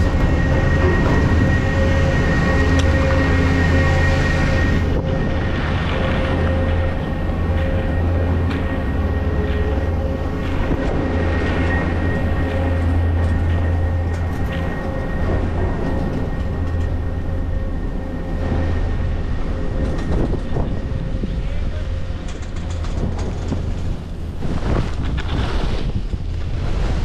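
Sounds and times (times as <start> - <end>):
chairlift mechanical hum: 0.0 - 27.0.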